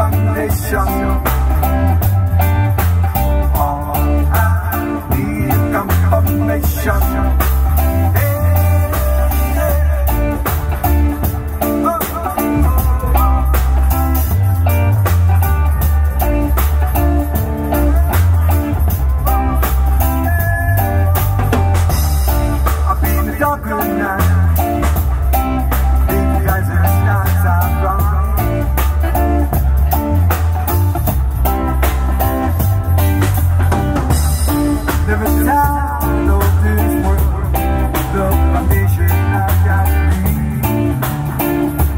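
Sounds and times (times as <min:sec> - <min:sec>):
blues-rock band playing: 0:00.0 - 0:41.9.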